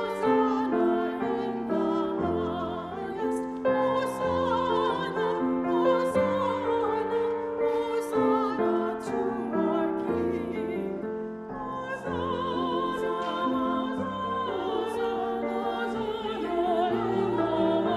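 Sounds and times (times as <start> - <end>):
person singing with vibrato: 0.0 - 17.9
piano accompaniment: 0.0 - 17.9.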